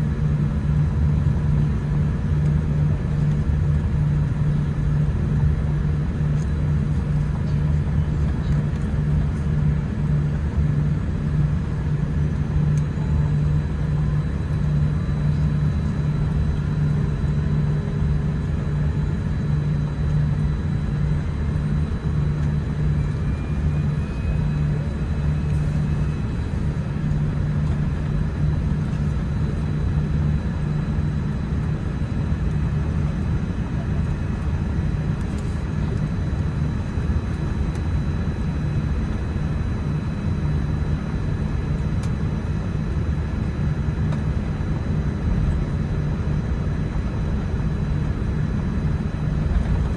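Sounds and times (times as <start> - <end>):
airliner cabin hum and rumble: 0.0 - 49.9.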